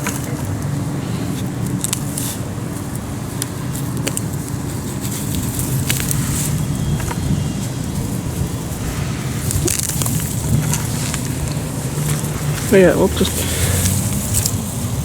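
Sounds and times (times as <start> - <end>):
steady low rumble: 0.0 - 15.0
weeds pulled and rustled: 0.0 - 15.0
crackles and snaps: 1.4 - 7.3, 8.7 - 15.0.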